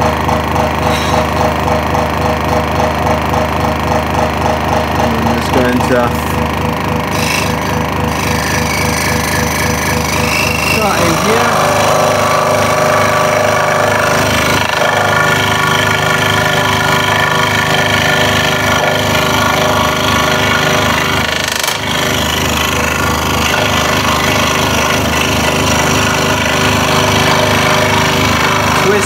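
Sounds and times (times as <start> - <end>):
scroll saw cutting wood: 0.0 - 29.0.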